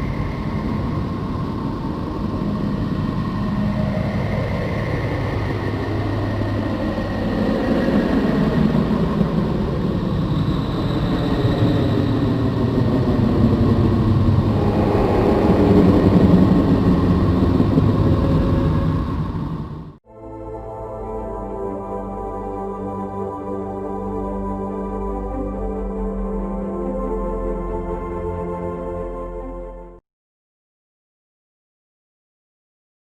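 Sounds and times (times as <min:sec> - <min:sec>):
low rumbling drone with gliding tones: 0:00.0 - 0:30.0.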